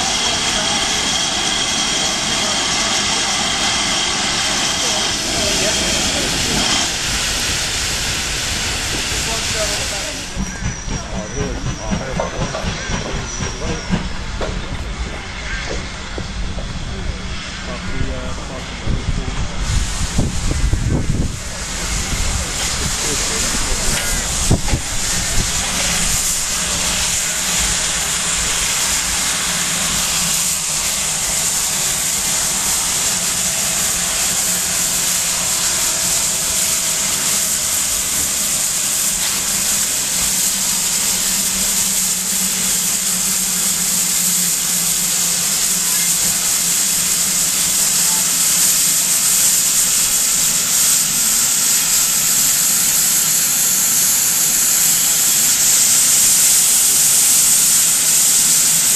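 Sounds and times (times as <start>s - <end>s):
steam locomotive blowing off steam: 0.0s - 58.9s.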